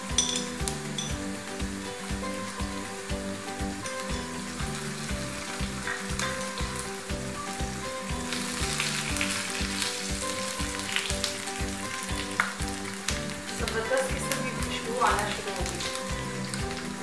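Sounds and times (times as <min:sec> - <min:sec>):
background music with steady beat: 0:00.0 - 0:17.0
hot oil sizzling in a frying pan: 0:00.0 - 0:17.0.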